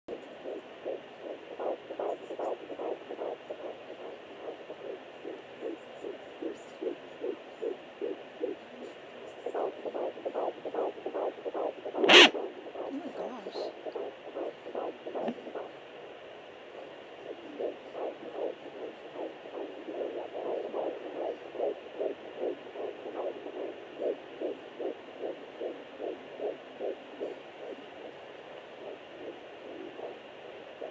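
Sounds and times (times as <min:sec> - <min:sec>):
fetal heartbeat on doppler speaker: 0:00.1 - 0:15.8, 0:16.8 - 0:30.9
static hiss: 0:00.1 - 0:30.9.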